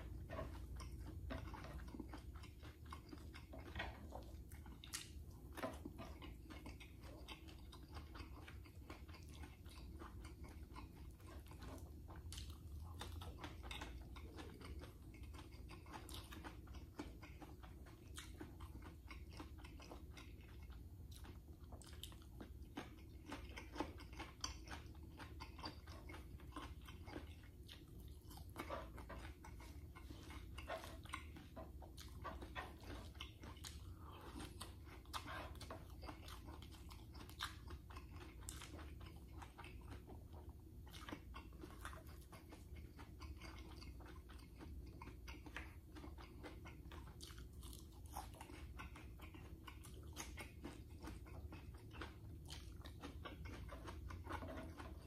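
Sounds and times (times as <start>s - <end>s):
low steady hum: 0.0s - 55.0s
person chewing food: 0.0s - 55.0s.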